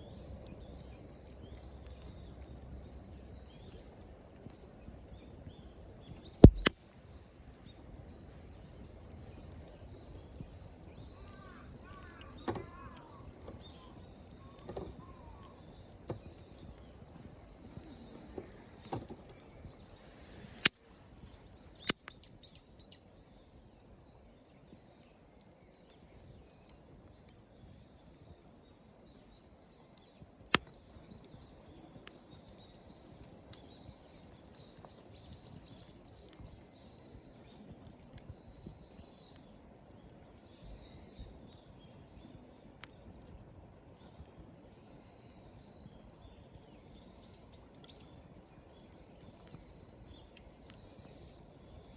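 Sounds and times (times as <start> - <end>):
birds chirping faintly: 0.0 - 51.9
campfire crackling and popping: 0.0 - 51.9.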